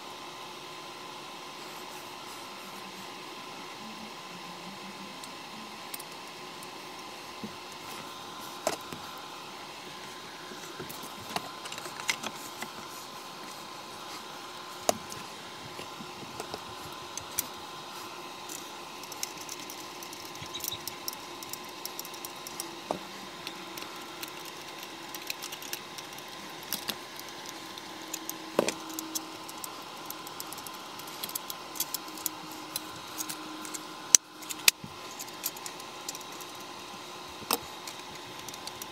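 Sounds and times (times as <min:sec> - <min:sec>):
faint background hum: 0:00.0 - 0:38.9.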